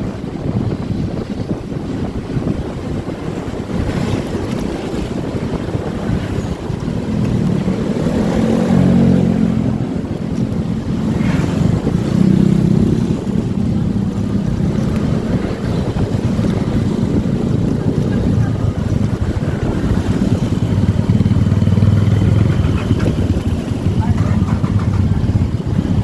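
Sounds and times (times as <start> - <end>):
motorcycle engine running: 0.0 - 26.0
wind buffeting microphone: 0.0 - 26.0.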